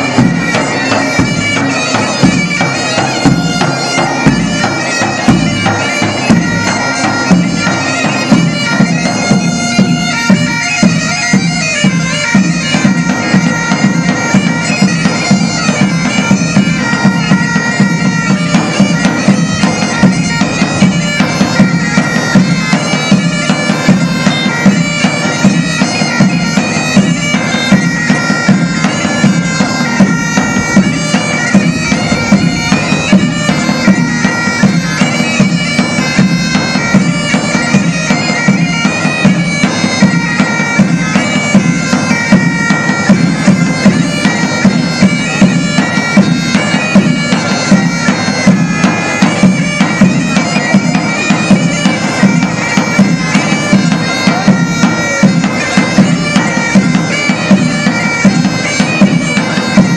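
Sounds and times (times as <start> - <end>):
bagpipes playing a tune: 0.0 - 59.9.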